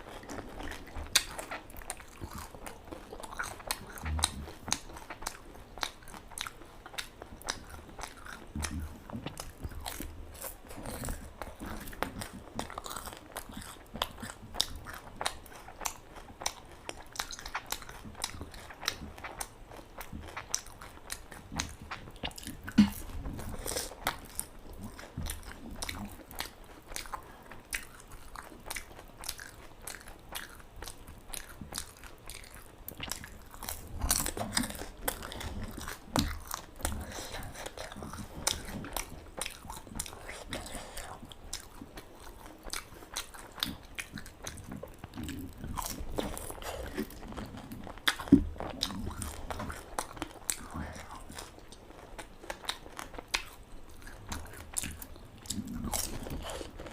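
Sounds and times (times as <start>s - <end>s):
crisp food crunching: 0.0s - 56.9s.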